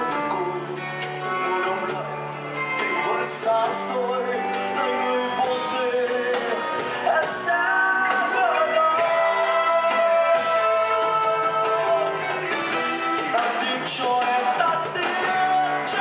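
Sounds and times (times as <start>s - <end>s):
live band playing: 0.0s - 16.0s
man singing a ballad: 0.0s - 16.0s.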